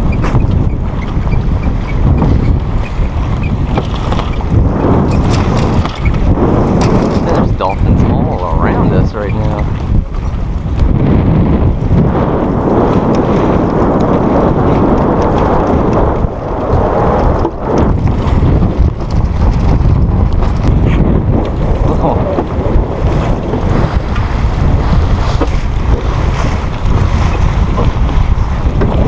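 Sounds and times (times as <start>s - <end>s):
water rushing along hull: 0.0s - 29.0s
wind buffeting microphone: 0.0s - 29.0s.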